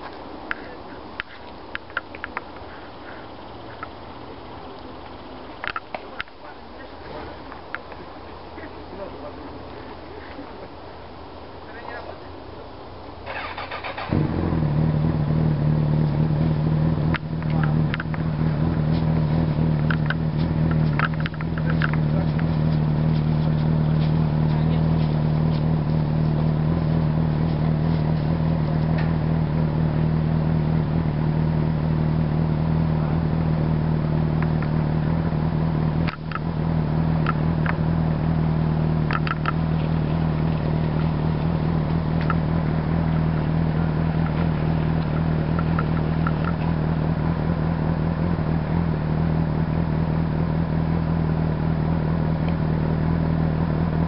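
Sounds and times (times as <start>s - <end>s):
low engine hum: 0.0s - 54.0s.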